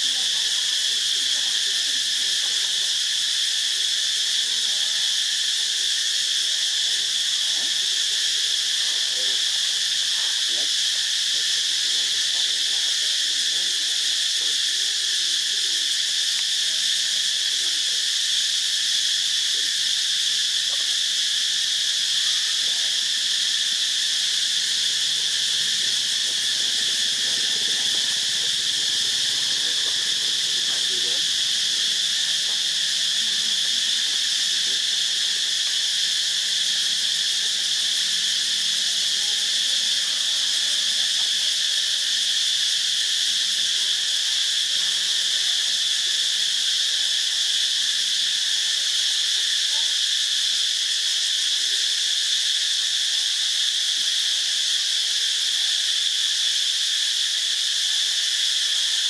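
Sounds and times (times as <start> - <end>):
insect chorus drone: 0.0 - 59.0.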